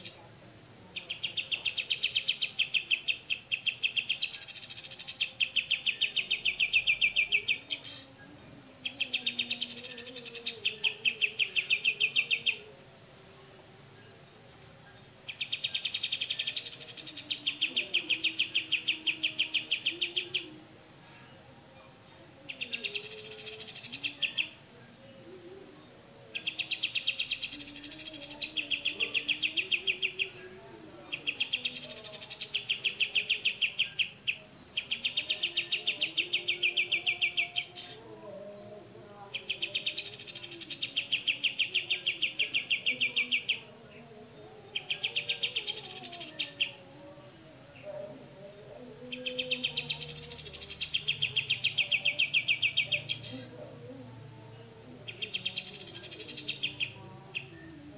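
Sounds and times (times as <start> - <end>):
faint steady high tone: 0.0 - 57.9.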